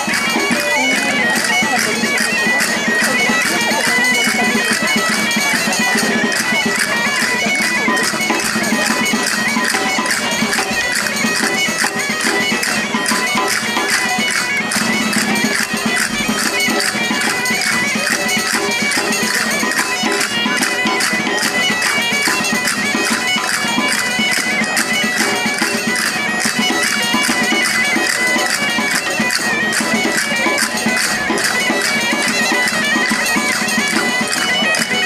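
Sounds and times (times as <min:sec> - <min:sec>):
bagpipe playing over drone: 0:00.0 - 0:35.0
steady percussive beat: 0:00.0 - 0:35.0.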